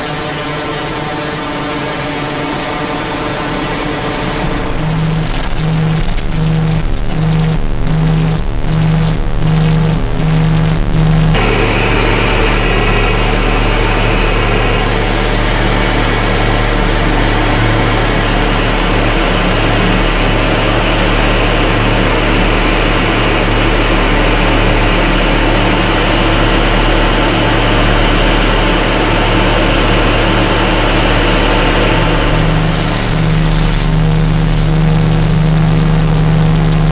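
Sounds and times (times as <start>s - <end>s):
harsh synthesizer noise: 0.0s - 36.9s
steady low hum: 0.0s - 36.9s.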